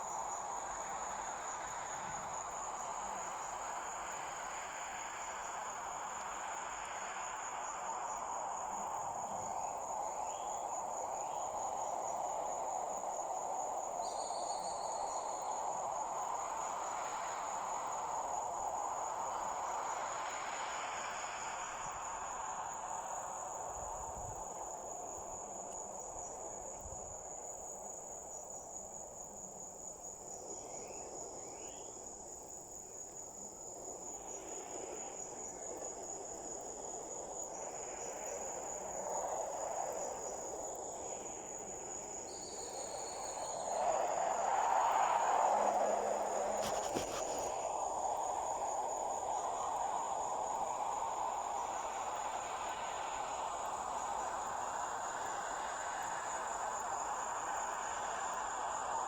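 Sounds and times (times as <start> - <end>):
insects trilling: 0.0 - 59.0
soft rushing hiss: 0.0 - 59.0.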